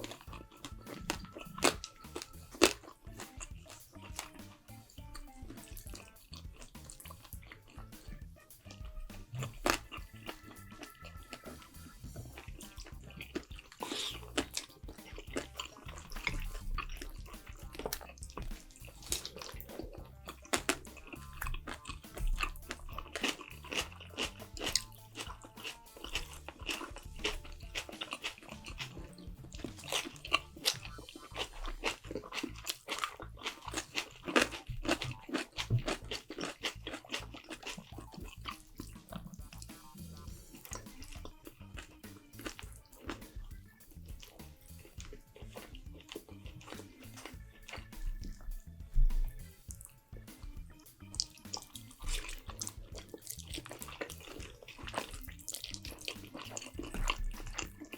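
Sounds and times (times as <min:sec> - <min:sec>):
person chewing and crunching food: 0:00.0 - 0:57.9
quiet background music: 0:00.0 - 0:57.9.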